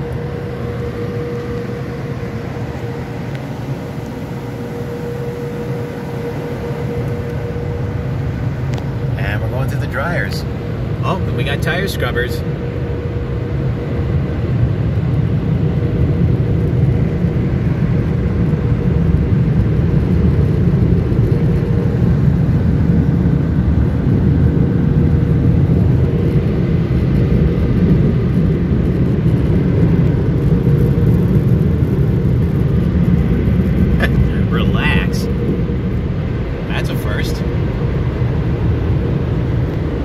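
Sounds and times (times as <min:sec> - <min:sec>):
blower dryers rumbling: 0:00.0 - 0:40.0
thin steady whine: 0:00.0 - 0:40.0.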